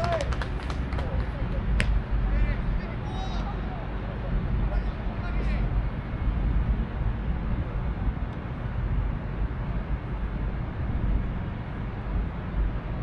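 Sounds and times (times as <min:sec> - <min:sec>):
low rumble: 0:01.6 - 0:12.9.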